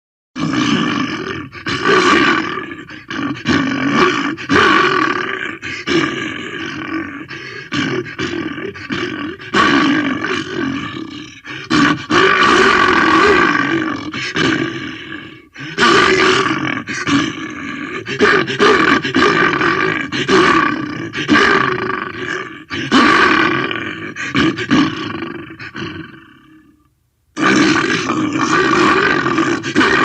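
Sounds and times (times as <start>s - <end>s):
cartoon creature growls and roars: 0.4s - 26.8s, 27.4s - 30.0s.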